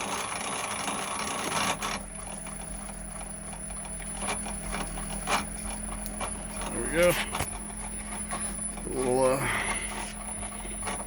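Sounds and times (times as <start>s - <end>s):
drill press humming: 0.0s - 11.0s.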